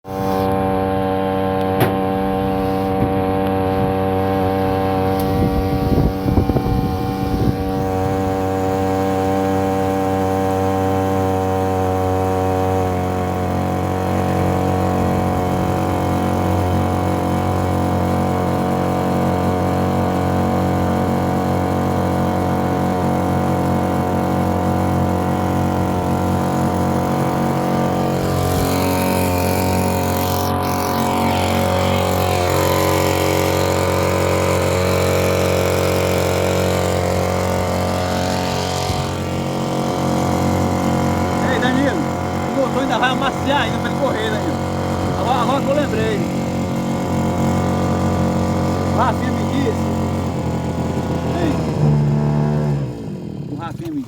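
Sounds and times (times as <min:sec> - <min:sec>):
boat motor running: 0:00.0 - 0:54.0.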